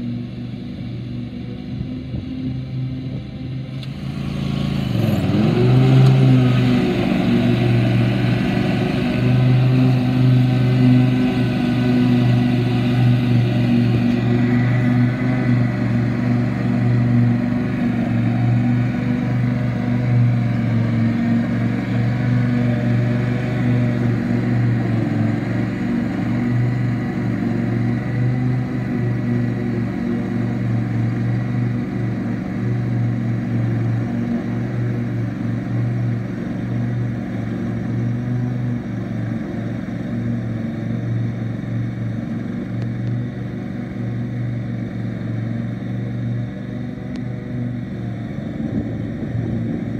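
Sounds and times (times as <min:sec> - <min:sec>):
lawn tractor mowing grass: 0:00.0 - 0:49.9.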